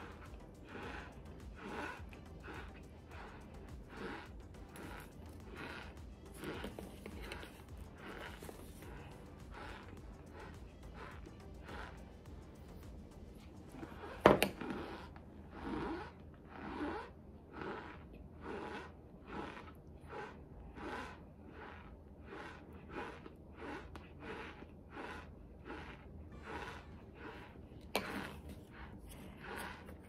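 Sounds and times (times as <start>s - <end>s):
crunchy chewing: 0.0s - 30.0s.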